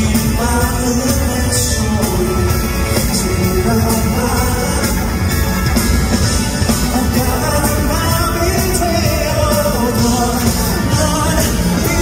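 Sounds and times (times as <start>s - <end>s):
live pop-rock band: 0.0s - 12.0s
man singing lead vocal: 0.0s - 12.0s.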